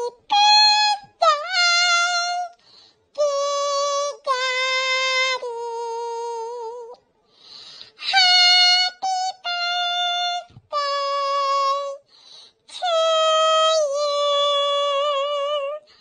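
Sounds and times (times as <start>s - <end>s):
pitch-shifted voice singing: 0.0s - 7.0s, 8.0s - 12.0s, 12.7s - 15.9s.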